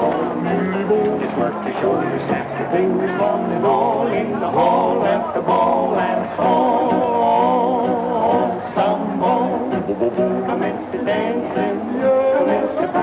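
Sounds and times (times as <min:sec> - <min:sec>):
instruments accompanying: 0:00.0 - 0:13.0
men singing in harmony: 0:00.0 - 0:13.0.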